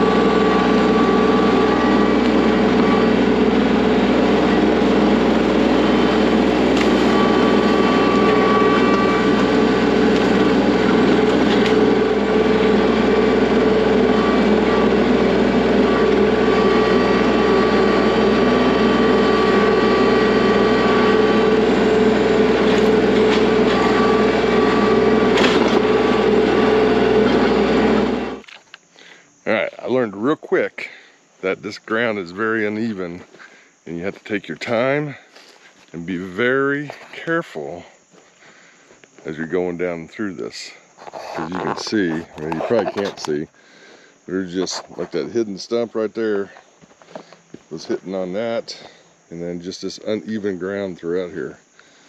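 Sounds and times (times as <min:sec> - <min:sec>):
tractor diesel engine running: 0:00.0 - 0:28.5, 0:31.4 - 0:37.9, 0:44.3 - 0:51.6.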